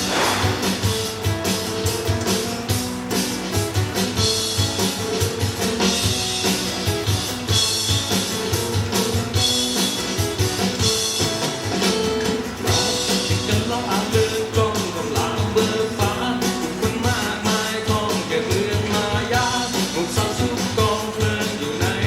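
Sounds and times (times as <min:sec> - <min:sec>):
band music with drums and guitar: 0:00.0 - 0:22.0.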